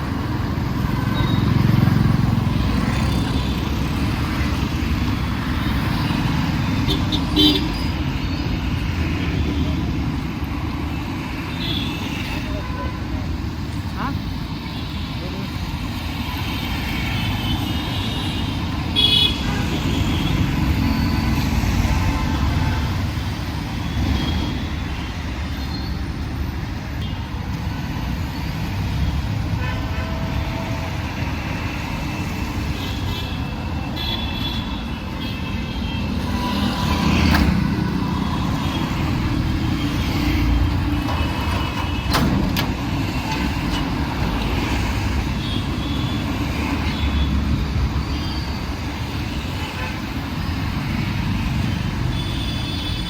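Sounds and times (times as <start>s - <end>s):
street traffic rumble: 0.0s - 53.0s.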